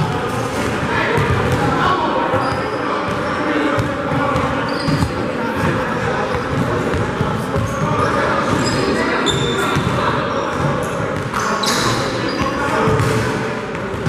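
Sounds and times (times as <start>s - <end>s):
players' voices: 0.0s - 14.0s
sneaker squeaks: 2.3s - 14.0s.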